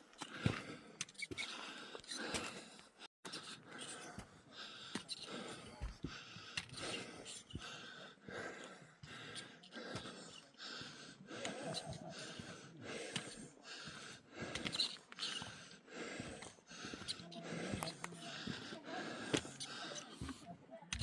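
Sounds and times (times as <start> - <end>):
person breathing hard: 0.2 - 21.0.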